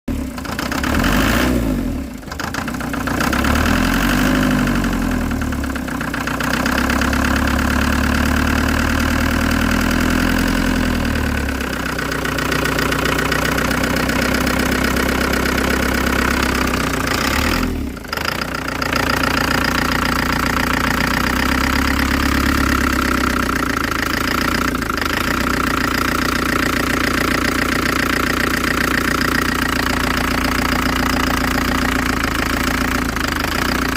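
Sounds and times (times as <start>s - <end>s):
engine knocking: 0.1s - 33.9s
diesel engine idling: 2.0s - 33.9s.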